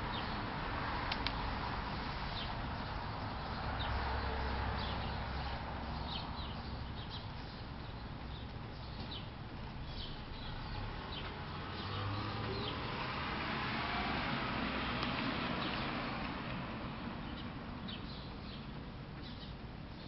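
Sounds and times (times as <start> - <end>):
small birds chirping: 0.0 - 13.2, 15.0 - 16.1, 17.1 - 20.0.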